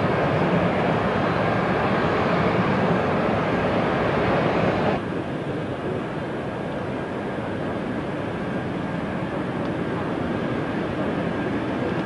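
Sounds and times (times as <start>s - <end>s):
jet airliner engines roaring: 0.0s - 12.0s.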